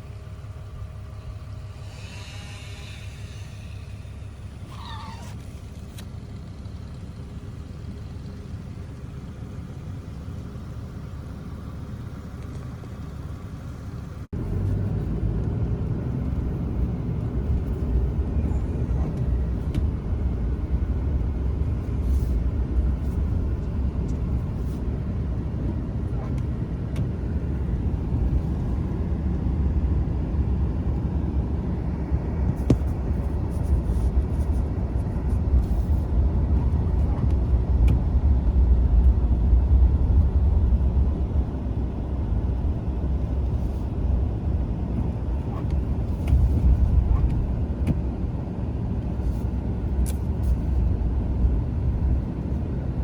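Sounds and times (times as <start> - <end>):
vehicle driving rumble: 0.0 - 53.0.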